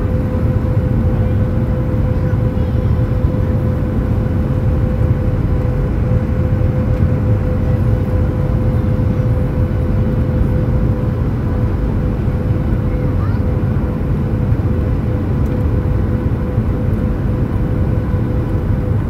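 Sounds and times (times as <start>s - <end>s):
constant whine: 0.0s - 19.0s
jet engines and rushing air: 0.0s - 19.0s.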